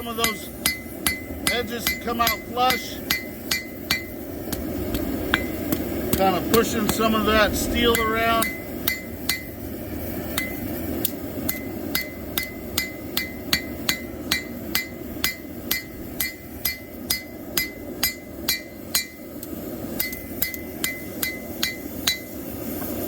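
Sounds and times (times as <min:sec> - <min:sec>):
hammer striking steel on anvil: 0:00.0 - 0:07.2, 0:07.9 - 0:09.6, 0:10.3 - 0:22.9
low rushing noise: 0:00.0 - 0:23.0.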